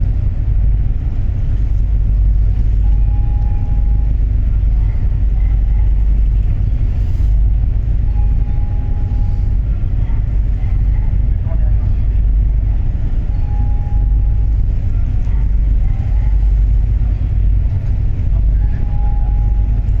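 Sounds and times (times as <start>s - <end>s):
ferry engines and water rumbling: 0.0s - 20.0s.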